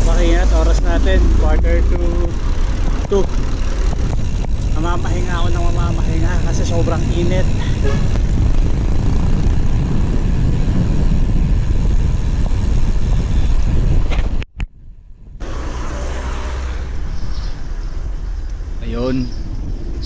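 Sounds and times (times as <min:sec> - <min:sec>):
road noise: 0:00.0 - 0:20.0
wind rumble: 0:00.0 - 0:20.0.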